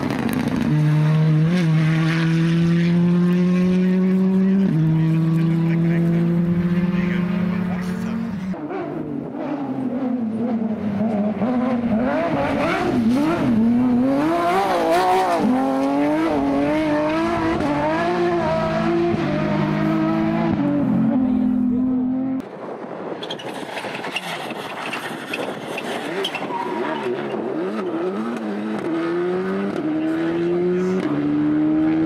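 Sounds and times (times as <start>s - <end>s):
distant rally car engine: 0.0s - 22.4s, 23.2s - 32.0s
rally car engine revving: 0.0s - 22.4s, 23.3s - 32.0s.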